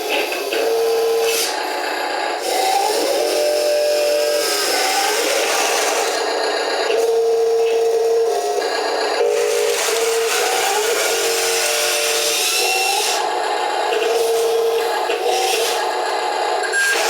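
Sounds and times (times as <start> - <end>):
wheel loader motor whine: 0.0 - 17.0.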